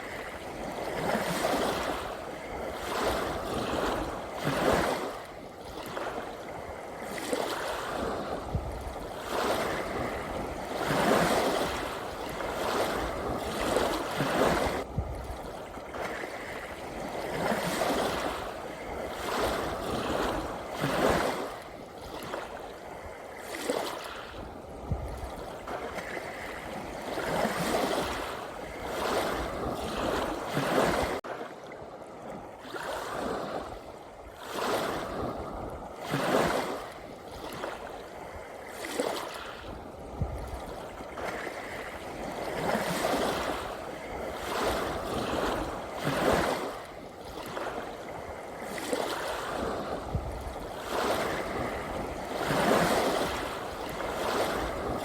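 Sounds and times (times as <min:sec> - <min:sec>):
ocean waves washing in: 0:00.0 - 0:55.0.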